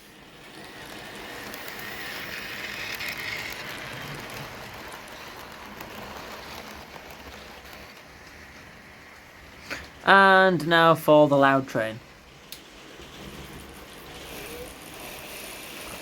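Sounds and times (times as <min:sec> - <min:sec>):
model train motor whirring: 0:00.0 - 0:09.5, 0:12.3 - 0:16.0
wheels clattering on rails: 0:00.0 - 0:10.0, 0:12.1 - 0:16.0.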